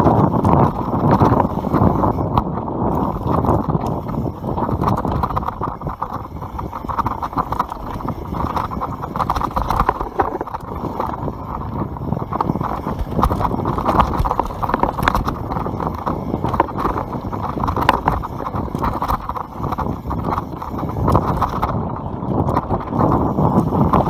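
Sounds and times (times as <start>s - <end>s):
bike parts rattling: 0.0s - 24.0s
bike tyres on dirt and stones: 0.0s - 24.0s.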